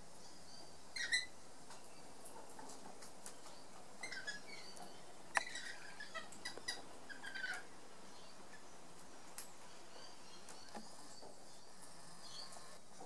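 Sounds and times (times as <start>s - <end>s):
birds chirping and squeaking: 0.2s - 12.8s.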